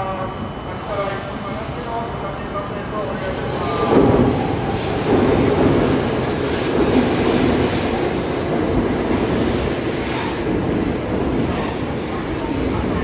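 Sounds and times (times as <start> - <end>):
train wheels rumbling: 1.5 - 13.0.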